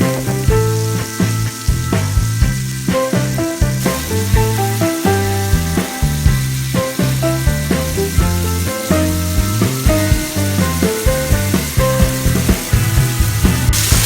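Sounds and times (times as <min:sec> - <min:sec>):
fish sizzling in oil: 0:00.0 - 0:14.0
instrumental music with bass line: 0:00.0 - 0:14.0.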